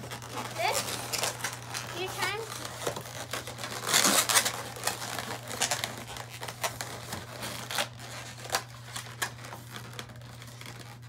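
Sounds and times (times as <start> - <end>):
balloons rubbing and crinkling: 0.0 - 11.0.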